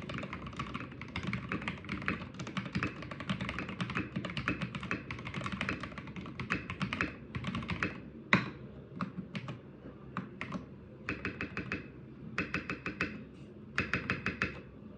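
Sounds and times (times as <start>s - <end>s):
mechanical keyboard typing: 0.0s - 9.6s, 10.2s - 13.2s, 13.8s - 14.7s.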